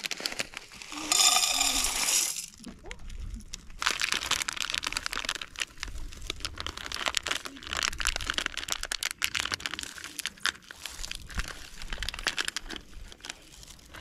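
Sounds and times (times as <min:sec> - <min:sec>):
dry material crinkling: 0:00.0 - 0:14.0.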